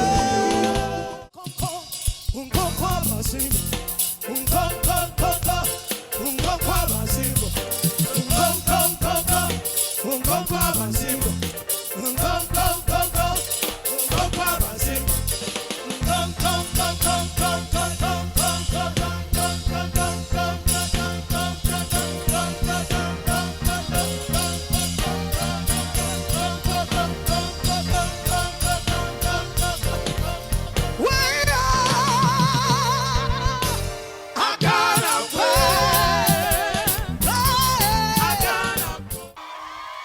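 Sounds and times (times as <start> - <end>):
live gospel band playing: 0.0 - 1.8, 2.4 - 39.5.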